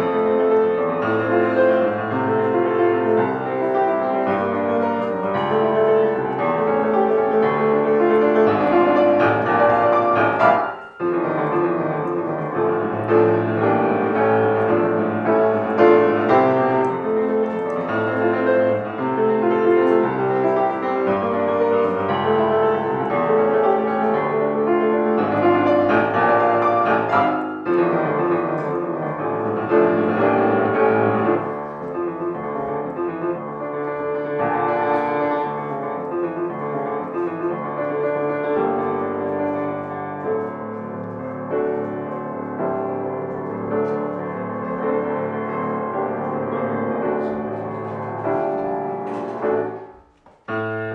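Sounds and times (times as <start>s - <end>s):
piano music: 0.0s - 50.9s.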